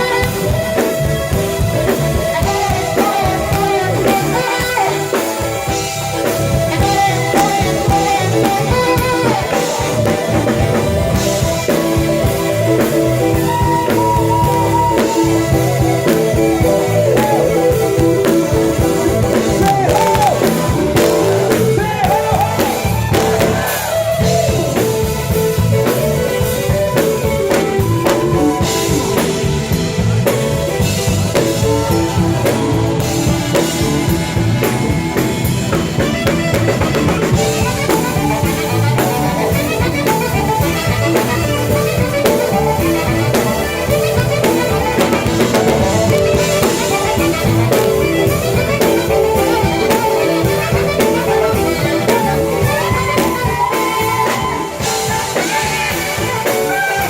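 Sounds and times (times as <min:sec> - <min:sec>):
live band playing blues groove: 0:00.0 - 0:57.0.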